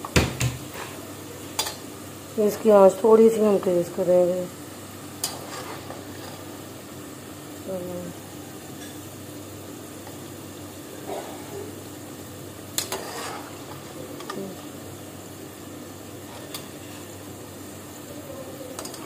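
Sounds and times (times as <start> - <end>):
fries sizzling in hot oil: 0.0 - 19.0.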